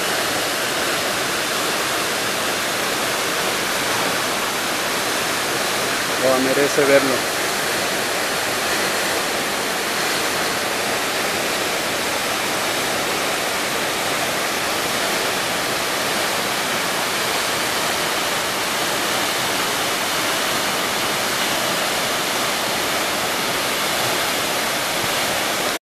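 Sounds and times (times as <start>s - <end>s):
waterfall rushing: 0.0s - 25.8s.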